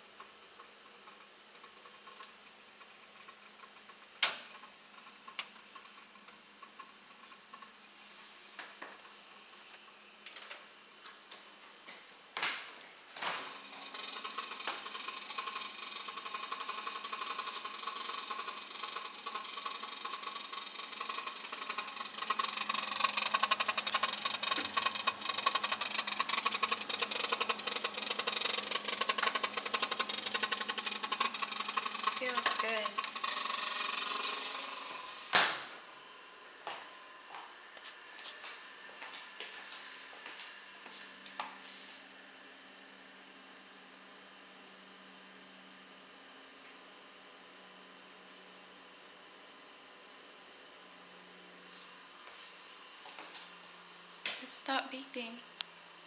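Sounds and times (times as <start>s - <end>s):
freezer fan whirring and rattling: 0.0s - 56.0s.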